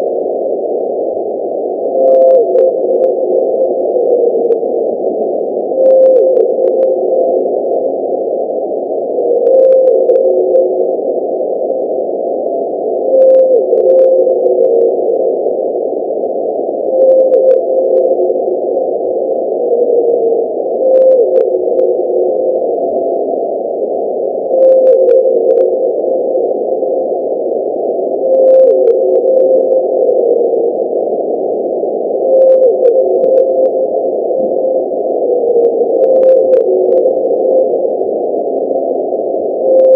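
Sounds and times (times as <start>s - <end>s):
muffled noise: 0.0s - 39.9s
low whale call tone: 1.8s - 8.3s, 9.0s - 15.6s, 16.8s - 23.6s, 24.2s - 39.9s.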